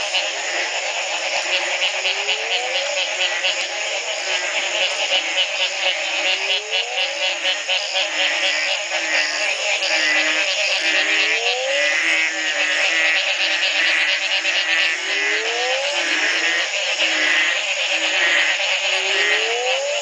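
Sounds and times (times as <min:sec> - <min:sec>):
frogs trilling chorus: 0:00.0 - 0:20.0
loud rising frog call: 0:00.0 - 0:20.0.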